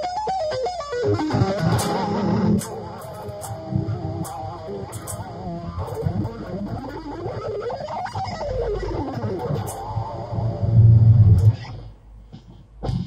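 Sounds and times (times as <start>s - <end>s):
electric guitar shred lead: 0.0s - 13.0s.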